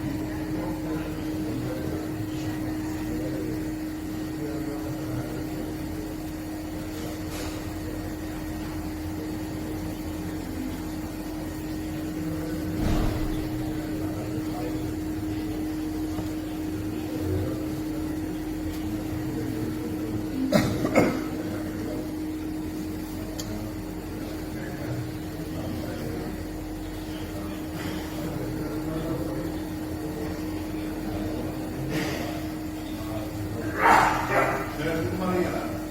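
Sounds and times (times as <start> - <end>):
steady mechanical hum: 0.0 - 35.9.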